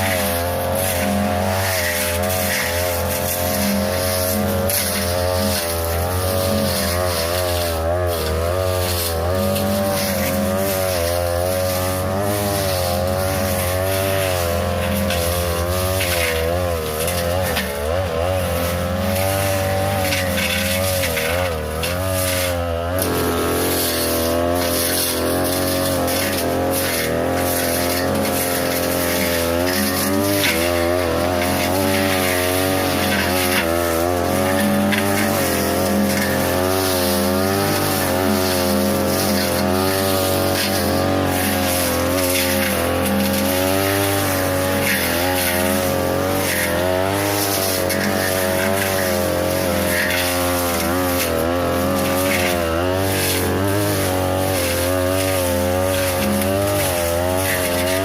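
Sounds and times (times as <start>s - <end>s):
brush cutter engine at high revs: 0.0s - 58.0s
blade cracking against stems: 0.1s - 58.0s.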